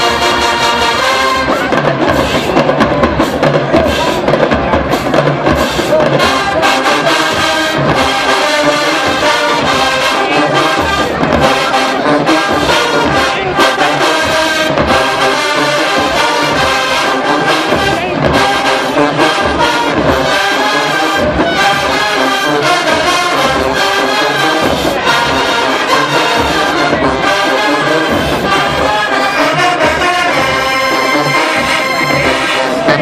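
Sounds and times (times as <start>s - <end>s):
marching band brass tune: 0.0s - 33.0s
steady drum beat: 0.0s - 33.0s.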